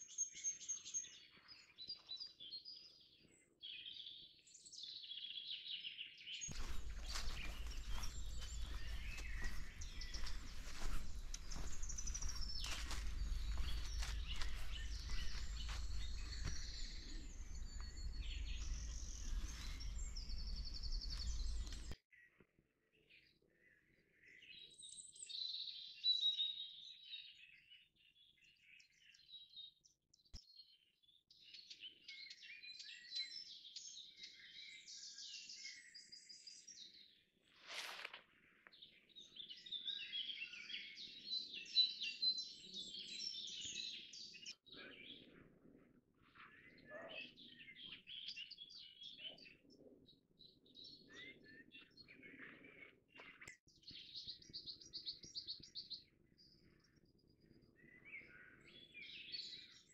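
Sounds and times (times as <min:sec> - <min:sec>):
songbirds singing: 0:00.0 - 0:37.4, 0:38.6 - 0:59.9.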